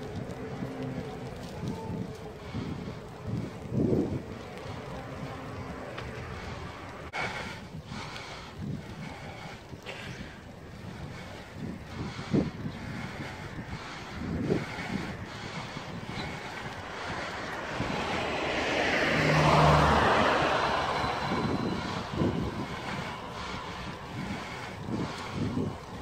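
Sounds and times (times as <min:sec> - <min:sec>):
car passing: 0:00.0 - 0:26.0
wind buffeting microphone: 0:00.0 - 0:26.0.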